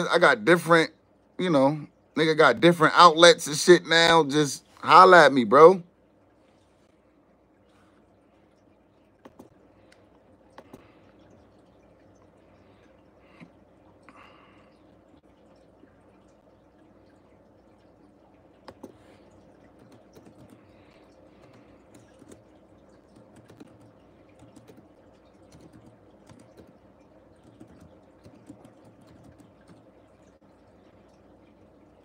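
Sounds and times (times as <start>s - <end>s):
low steady room hum: 0.0s - 32.0s.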